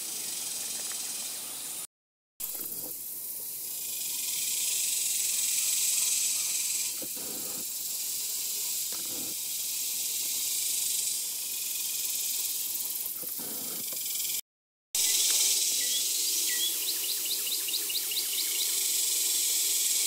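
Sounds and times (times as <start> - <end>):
insect chorus shrilling: 0.0 - 14.4, 15.0 - 20.0.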